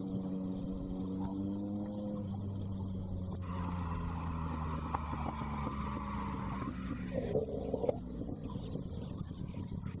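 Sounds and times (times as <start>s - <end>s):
motorcycle engine low burble: 0.0s - 10.0s.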